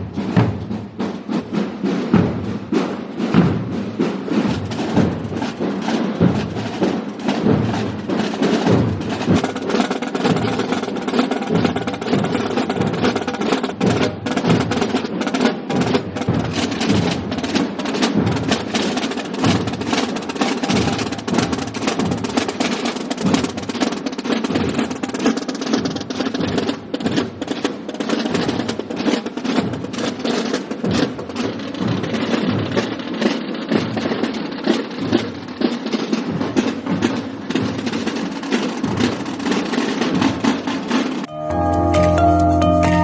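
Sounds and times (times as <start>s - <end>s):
many drums playing: 0.0s - 43.0s.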